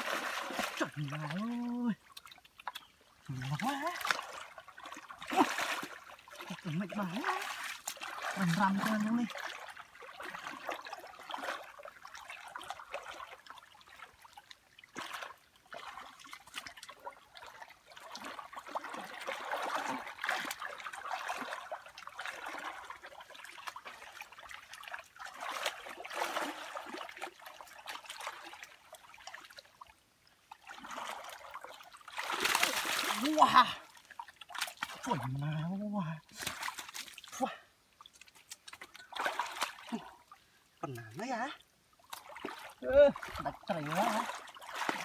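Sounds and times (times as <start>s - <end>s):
hands sloshing in muddy water: 0.0s - 29.9s, 30.5s - 35.7s, 36.3s - 45.0s.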